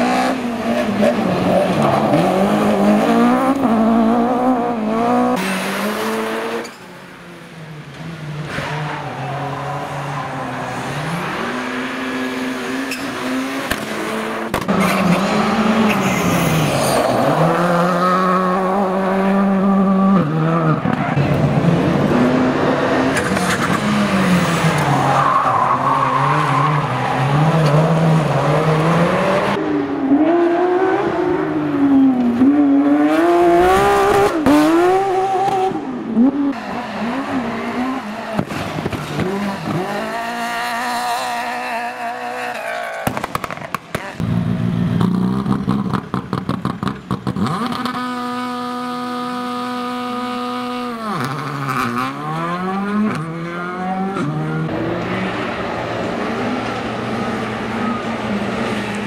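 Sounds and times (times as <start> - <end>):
rally car engine revving high: 0.0 - 6.8, 7.8 - 42.7, 43.9 - 59.0.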